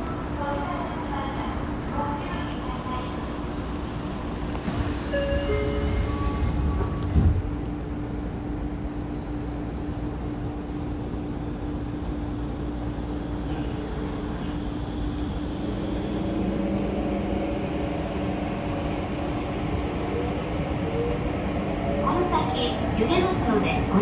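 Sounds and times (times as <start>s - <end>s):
train equipment hum: 0.0s - 24.0s.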